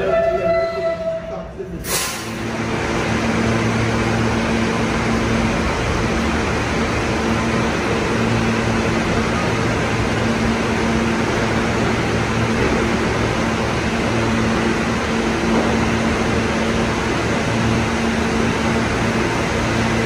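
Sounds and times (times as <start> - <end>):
subway train rumbling in tunnel: 0.0 - 20.0.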